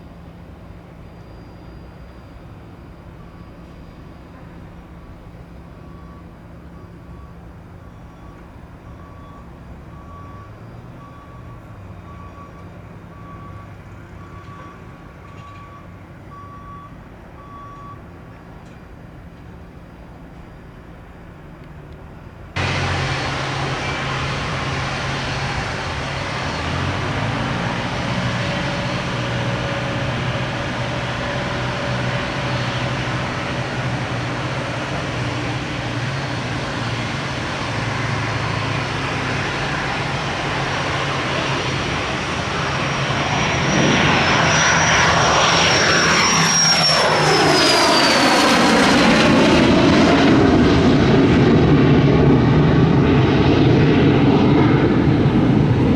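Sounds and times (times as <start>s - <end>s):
jet engine noise with whine: 0.0s - 55.9s.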